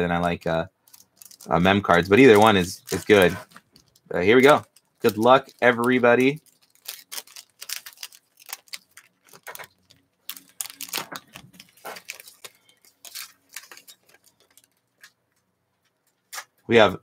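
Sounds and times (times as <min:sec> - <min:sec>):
foil wrappers crinkling and tearing: 0:00.0 - 0:15.2.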